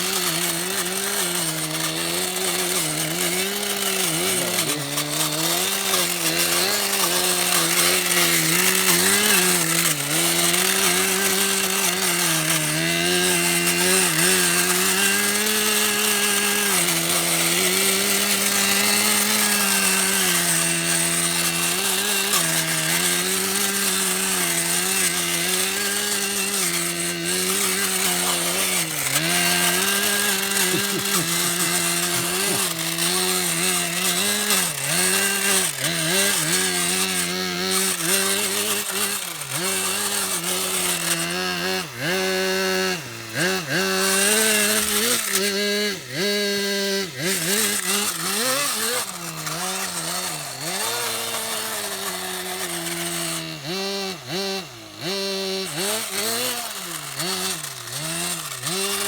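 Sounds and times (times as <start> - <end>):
model engine buzzing whine: 0.0 - 59.0.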